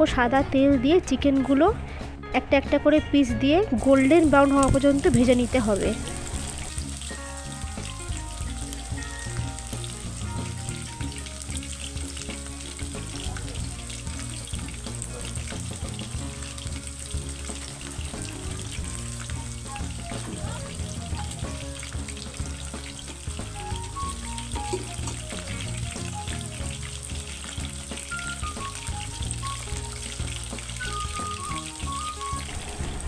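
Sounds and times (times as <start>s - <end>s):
chicken sizzling in oil: 3.8s - 33.0s.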